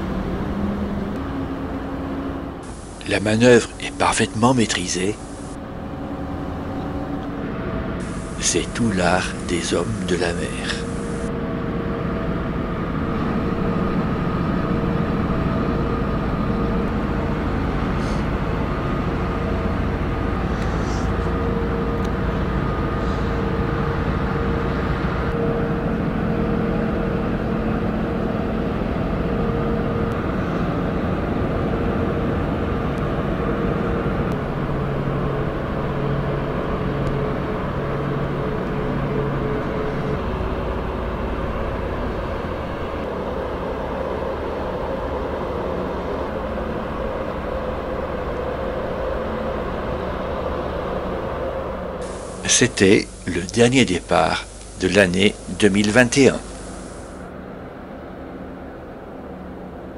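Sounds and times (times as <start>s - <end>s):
deeper engine note: 0.0s - 59.9s
diesel engines droning: 0.0s - 59.9s
steady hum: 0.0s - 59.9s.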